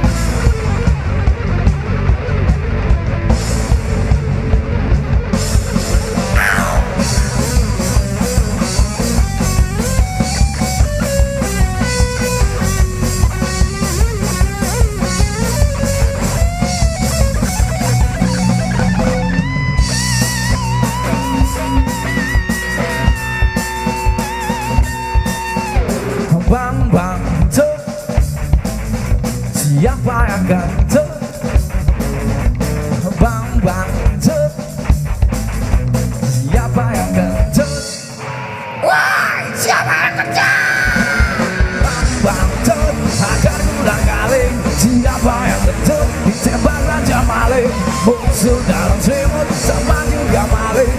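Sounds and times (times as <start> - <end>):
electric guitar lead: 0.0 - 50.9
rock band playing: 0.0 - 50.9.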